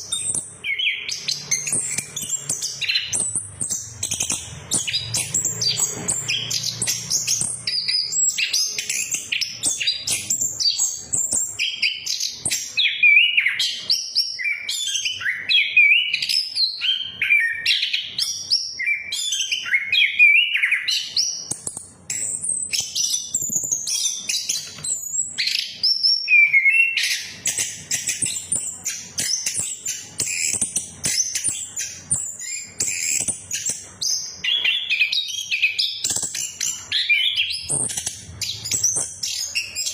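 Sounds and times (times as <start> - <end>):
thrush singing whistled trills: 0.0 - 39.9.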